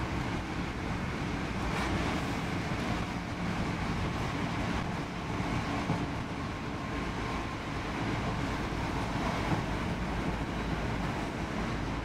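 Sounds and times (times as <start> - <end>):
train carriage running rumble: 0.0 - 12.0.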